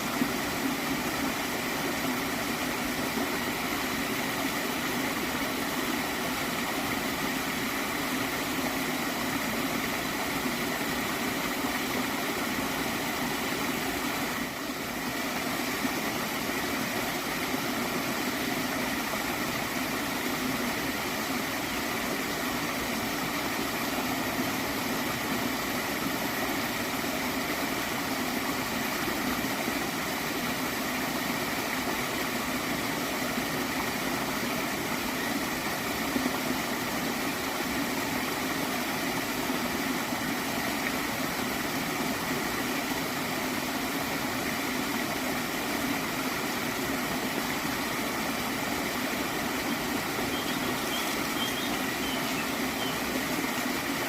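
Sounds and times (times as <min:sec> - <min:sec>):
water stream gurgling: 0:00.0 - 0:54.0.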